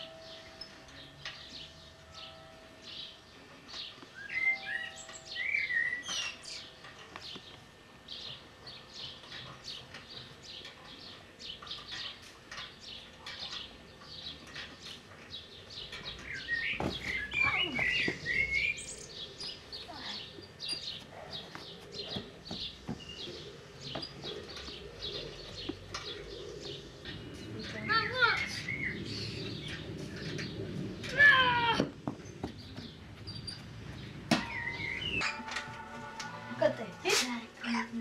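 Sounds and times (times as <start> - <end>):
birds chirping: 0.1 - 38.0.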